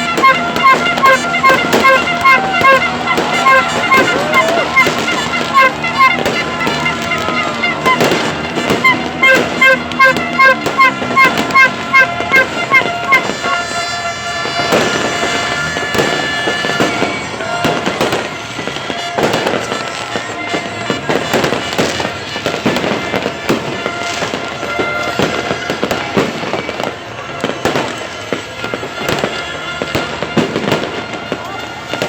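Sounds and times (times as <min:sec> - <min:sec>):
blaring horn tones: 0:00.0 - 0:32.0
fireworks bangs and crackling: 0:00.0 - 0:32.0.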